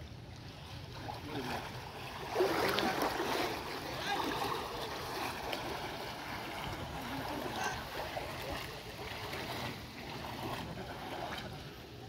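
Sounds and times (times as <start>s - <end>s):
sea water sloshing around legs: 0.0s - 12.0s.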